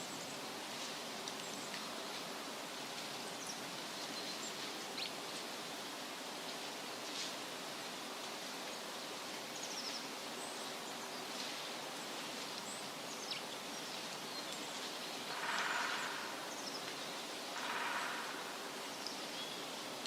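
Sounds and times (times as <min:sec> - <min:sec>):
wind rustling leaves: 0:00.0 - 0:20.0.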